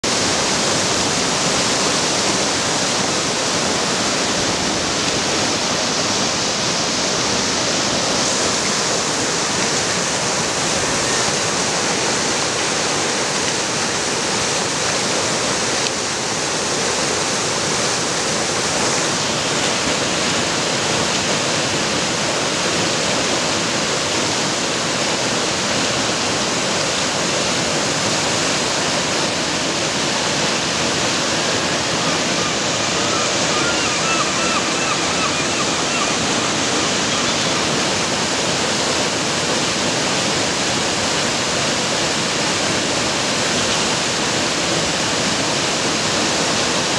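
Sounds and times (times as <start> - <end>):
water rushing over rocks: 0.0 - 46.9.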